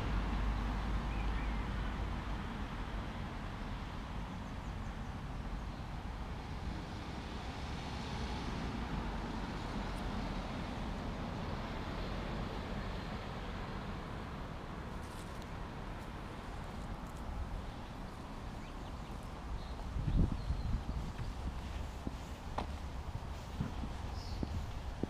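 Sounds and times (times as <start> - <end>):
low traffic rumble: 0.0 - 25.0
passing cars: 0.0 - 25.0.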